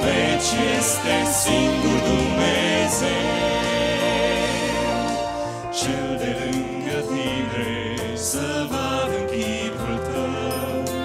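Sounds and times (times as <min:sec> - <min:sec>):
male vocal quartet singing: 0:00.0 - 0:11.0.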